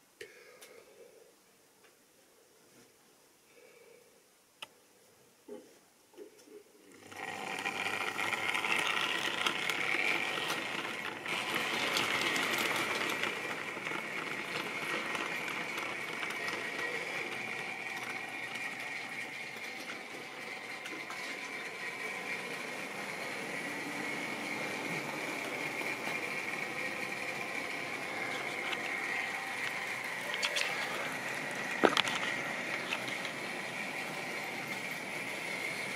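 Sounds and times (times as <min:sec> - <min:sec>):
electric motor whining: 0:06.9 - 0:35.9
wheels rattling over rails: 0:06.9 - 0:35.9.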